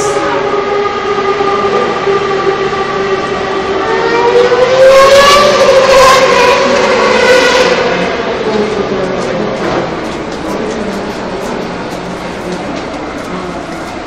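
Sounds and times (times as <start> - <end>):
racing car engine accelerating: 0.4 - 14.0.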